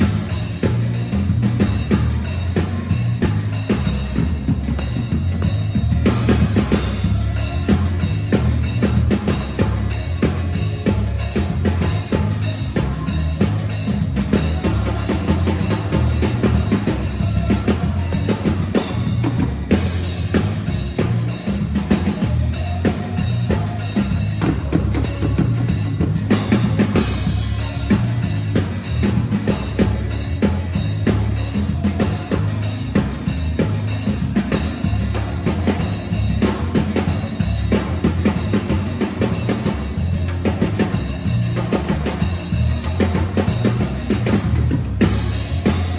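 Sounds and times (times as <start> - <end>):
drum-driven music: 0.0 - 45.9
heavy bass line: 0.0 - 45.9.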